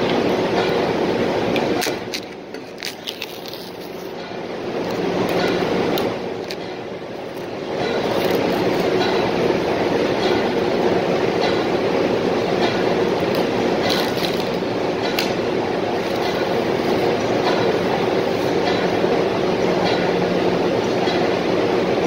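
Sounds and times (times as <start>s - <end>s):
machinery running: 0.0s - 22.0s.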